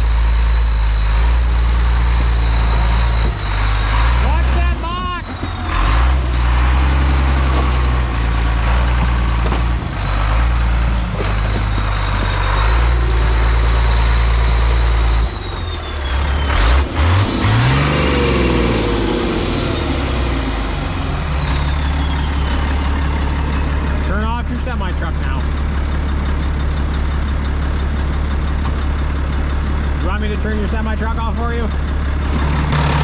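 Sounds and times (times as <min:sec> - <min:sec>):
turbo diesel engine whining: 0:00.0 - 0:33.0.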